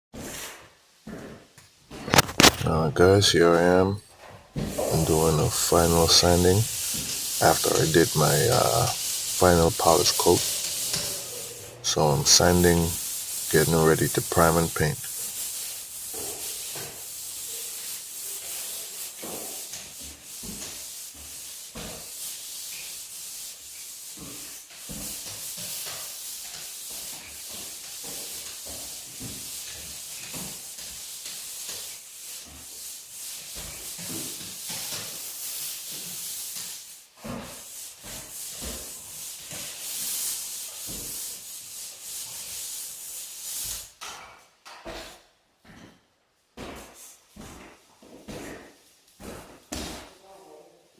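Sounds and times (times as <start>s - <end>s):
sanding drywall: 2.1s - 2.6s, 4.6s - 44.0s, 48.3s - 50.1s.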